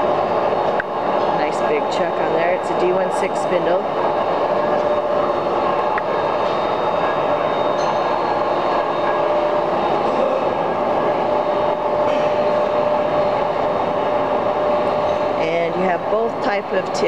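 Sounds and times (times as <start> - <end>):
machinery rumble with hum: 0.0 - 17.0.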